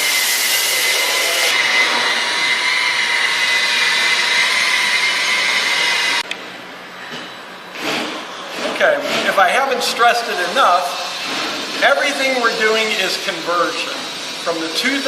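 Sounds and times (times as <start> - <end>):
rotary buffer polishing wood: 0.0 - 6.2, 7.8 - 15.0.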